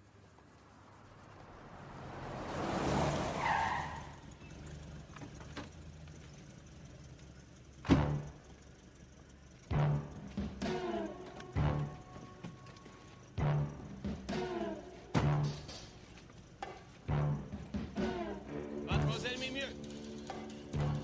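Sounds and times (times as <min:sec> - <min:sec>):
brake squeal: 0:00.0 - 0:21.0
car driving up: 0:00.0 - 0:21.0
car engine idling: 0:00.0 - 0:21.0.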